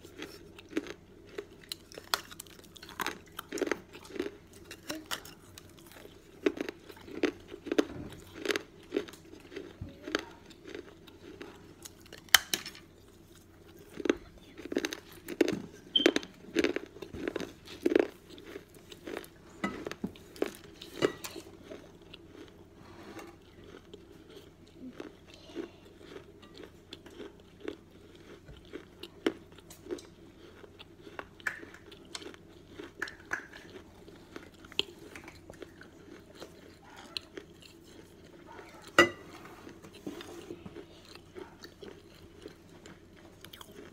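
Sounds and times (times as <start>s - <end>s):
clay cup being chewed: 0.0s - 43.9s.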